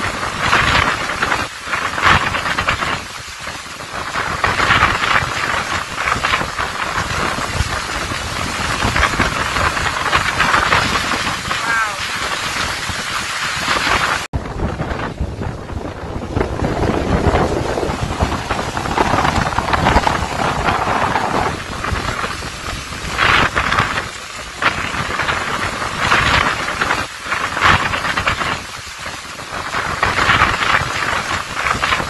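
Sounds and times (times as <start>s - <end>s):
driving rain: 0.0s - 32.0s
strong wind gusts: 0.0s - 32.0s.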